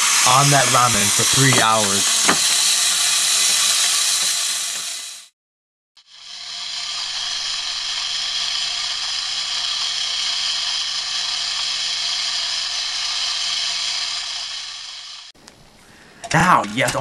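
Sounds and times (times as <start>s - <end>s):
device hissing: 0.0s - 5.3s, 6.0s - 15.3s.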